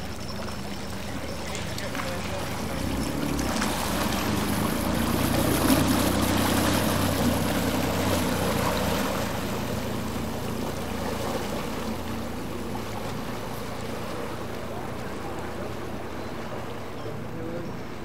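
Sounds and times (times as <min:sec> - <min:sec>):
outboard motor running: 0:00.0 - 0:18.0
water churning: 0:00.0 - 0:18.0.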